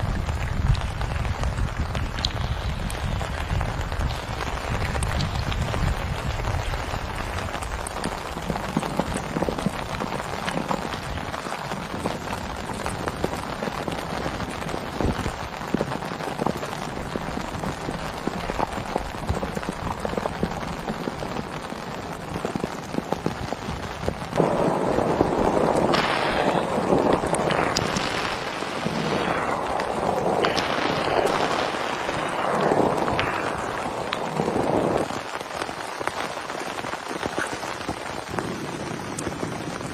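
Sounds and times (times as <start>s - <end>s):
heavy rain falling: 0.0s - 39.9s
raindrops striking close by: 0.0s - 39.9s.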